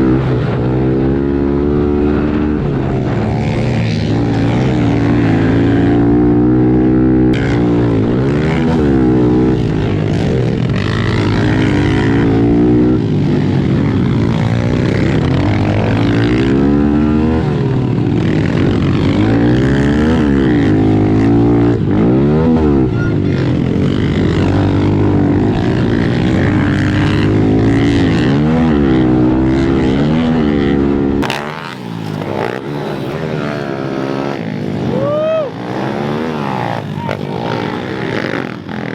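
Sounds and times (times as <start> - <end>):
motorbike engines droning: 0.0 - 38.9
pit bike engine revving: 0.0 - 38.9.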